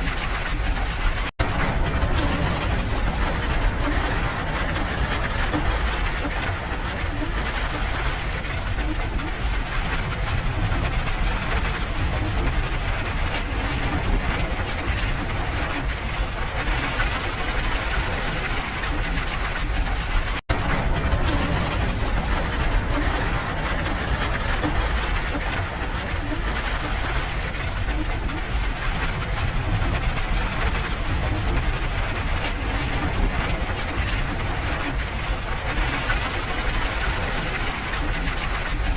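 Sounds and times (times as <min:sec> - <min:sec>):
steady rain: 0:00.0 - 0:38.9
low rumble: 0:00.1 - 0:38.9.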